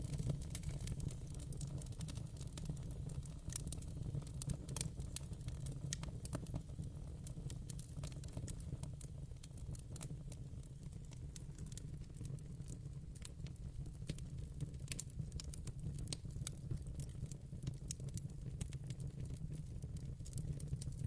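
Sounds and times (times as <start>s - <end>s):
burning wood crackling and popping: 0.0s - 21.0s
flames rumbling: 0.0s - 21.0s.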